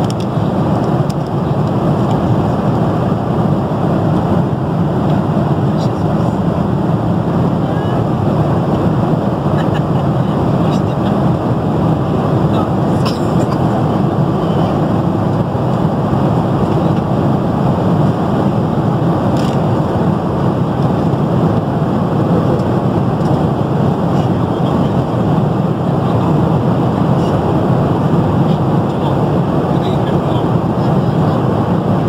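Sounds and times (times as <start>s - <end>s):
airliner cabin engine and airflow rush: 0.0s - 32.0s.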